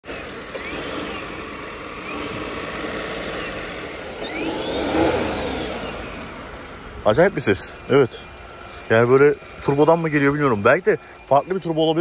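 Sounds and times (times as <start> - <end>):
car engine running: 0.0 - 12.0
high whistling whine: 0.1 - 12.0.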